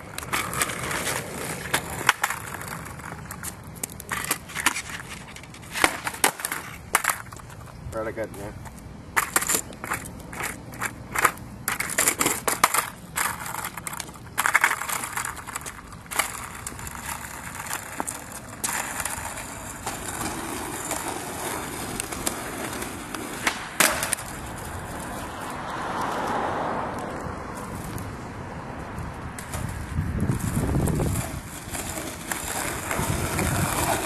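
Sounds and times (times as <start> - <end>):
skateboard clacking on pavement: 0.0 - 28.1, 29.4 - 34.0
skateboard wheels rolling: 0.0 - 34.0.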